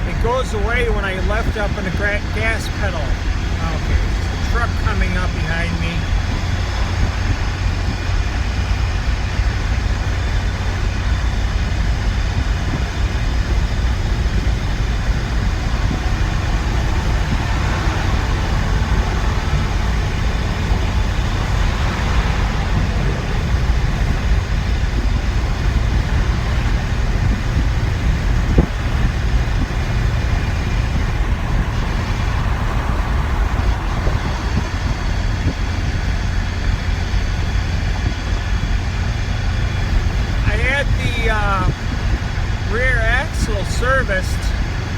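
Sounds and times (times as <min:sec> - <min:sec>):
road and wind noise: 0:00.0 - 0:44.9
truck engine: 0:00.0 - 0:44.9.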